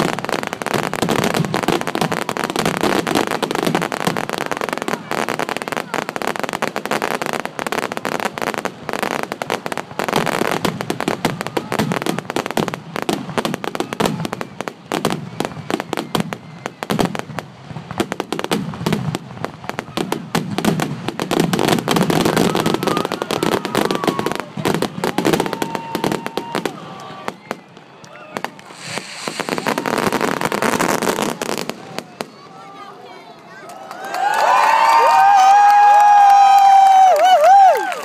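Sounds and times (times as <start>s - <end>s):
fireworks bursting and crackling: 0.0s - 33.6s, 34.3s - 38.0s.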